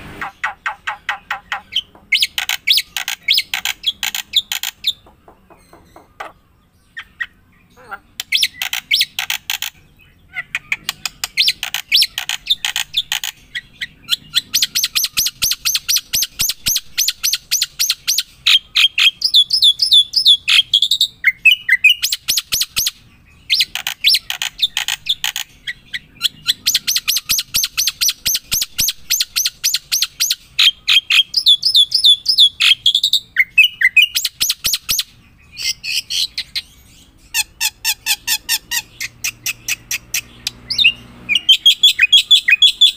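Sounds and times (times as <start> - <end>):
bird singing chattering song: 0.0 - 42.9.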